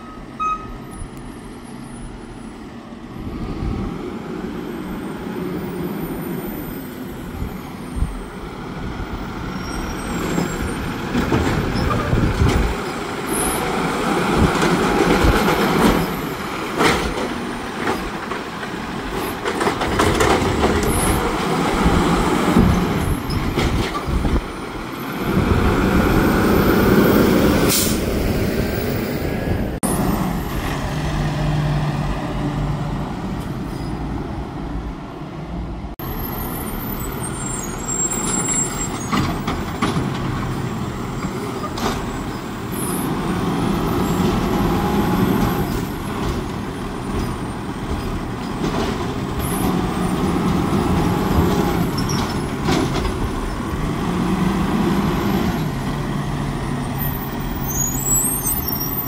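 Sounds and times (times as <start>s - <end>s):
truck engine under hydraulic load: 0.0s - 34.4s, 36.0s - 59.0s.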